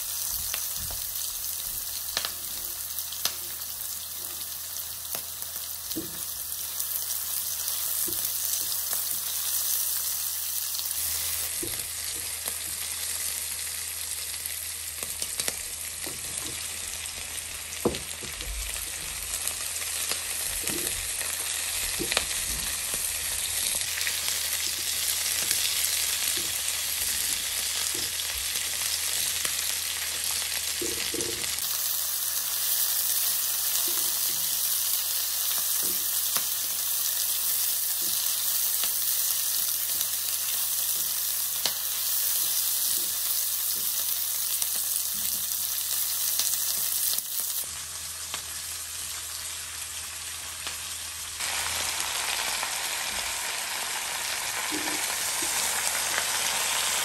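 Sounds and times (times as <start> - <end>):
chicken frying in a pan: 0.0 - 57.0
vegetables sizzling in hot oil: 0.0 - 57.0.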